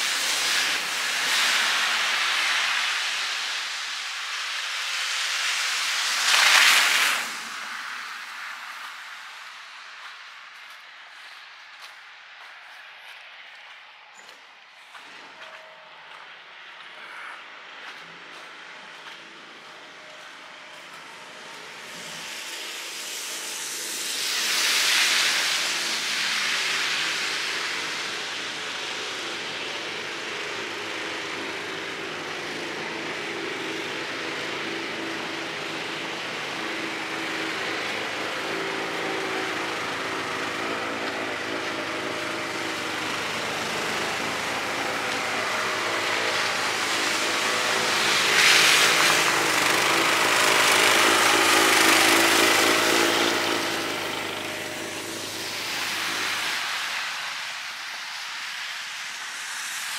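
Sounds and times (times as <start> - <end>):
steady engine hum: 0.0 - 59.9
vehicles passing: 0.0 - 59.9.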